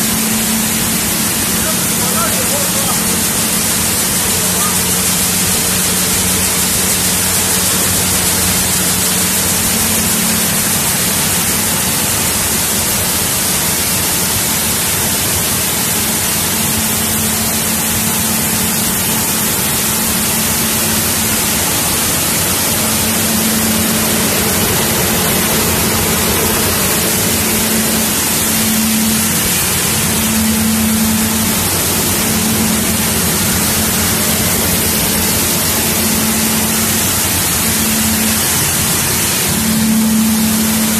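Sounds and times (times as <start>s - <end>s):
low motor hum: 0.0s - 40.9s
machinery rushing noise: 0.0s - 40.9s.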